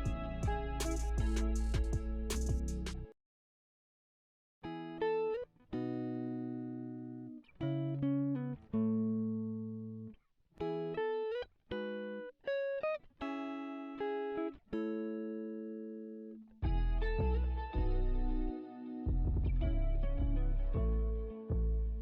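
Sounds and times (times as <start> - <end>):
guitar plucking a melody: 0.0 - 3.1, 4.6 - 22.0.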